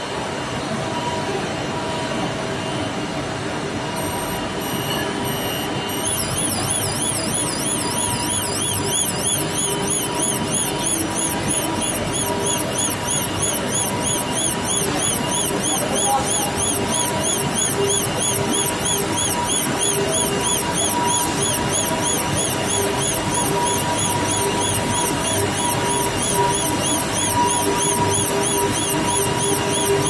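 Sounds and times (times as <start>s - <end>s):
machinery hum: 0.0s - 30.0s
short high beeps: 4.0s - 30.0s
warbling alarm siren: 4.0s - 30.0s.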